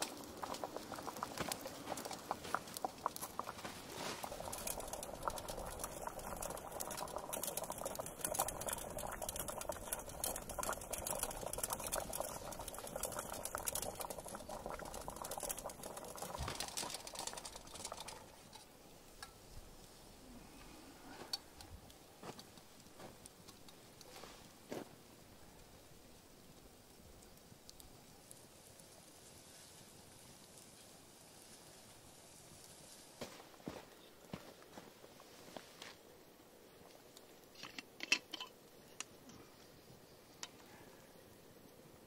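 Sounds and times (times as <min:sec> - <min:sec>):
burning wood crackling: 0:00.0 - 0:42.0
water boiling and bubbling: 0:00.0 - 0:42.0.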